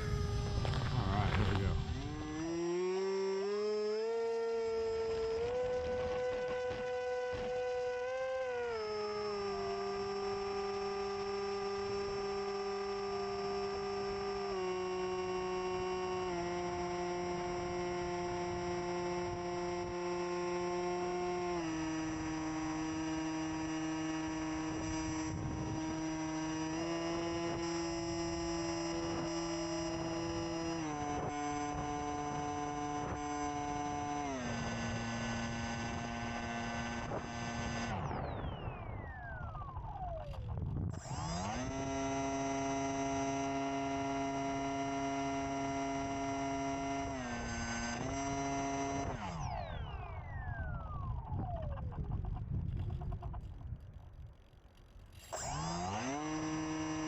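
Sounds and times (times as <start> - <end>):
model plane electric motor whining: 0.0 - 51.8, 54.4 - 57.0.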